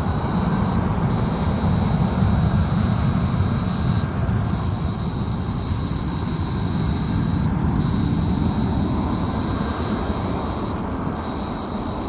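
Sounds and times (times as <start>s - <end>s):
jet engine high whine: 0.0s - 12.0s
jet engines low rumble: 0.0s - 12.0s.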